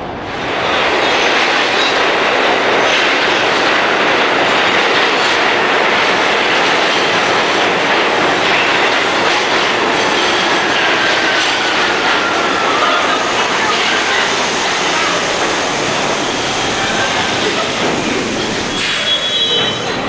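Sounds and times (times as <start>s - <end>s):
subway train rumbling past: 0.0s - 20.0s.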